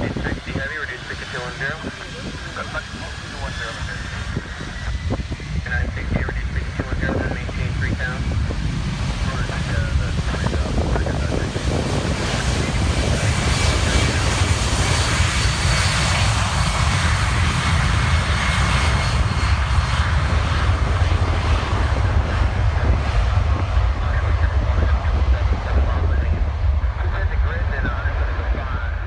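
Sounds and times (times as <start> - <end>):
faint high engine whine: 0.0 - 29.0
jet engines rumbling at takeoff: 0.0 - 29.0.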